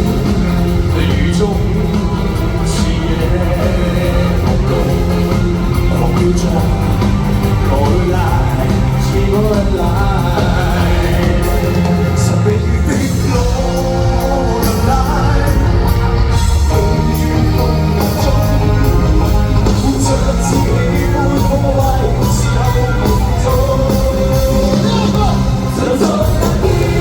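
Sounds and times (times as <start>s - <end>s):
live rock band playing: 0.0s - 27.0s
person singing: 0.0s - 27.0s.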